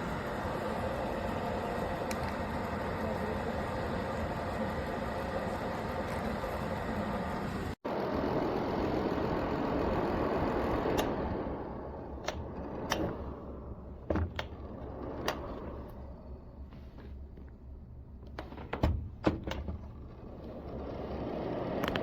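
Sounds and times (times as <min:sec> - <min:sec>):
space heater fan running: 0:00.0 - 0:22.0.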